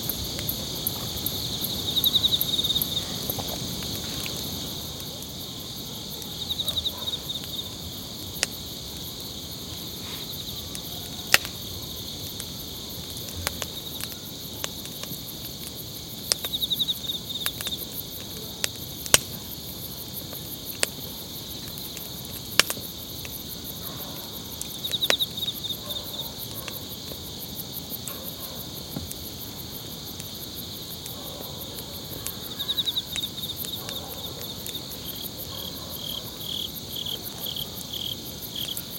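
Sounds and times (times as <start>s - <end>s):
burning wood popping: 0.0s - 38.9s
crickets chirping: 0.0s - 38.9s
loud insect trill: 0.0s - 38.9s.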